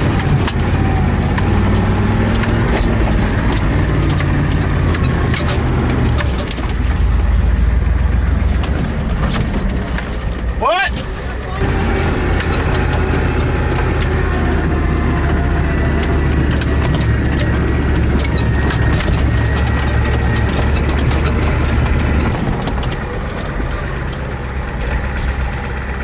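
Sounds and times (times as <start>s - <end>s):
clicks and rattles: 0.0s - 7.4s, 8.4s - 10.6s, 11.7s - 26.0s
truck engine rumbling: 0.0s - 26.0s.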